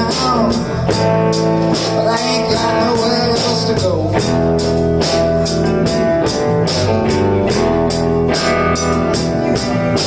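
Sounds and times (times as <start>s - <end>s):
bass guitar: 0.0s - 10.0s
blues-rock band playing: 0.0s - 10.0s
drum kit steady beat: 0.0s - 10.0s
guitars: 0.0s - 10.0s.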